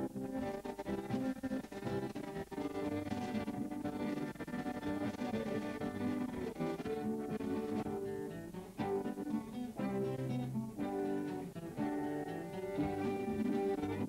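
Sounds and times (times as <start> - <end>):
acoustic guitars strumming: 0.0 - 14.0
fiddle: 0.0 - 14.0.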